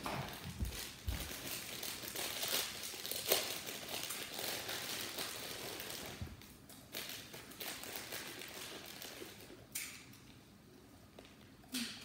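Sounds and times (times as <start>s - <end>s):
plastic snack bag crinkling: 0.0s - 9.7s.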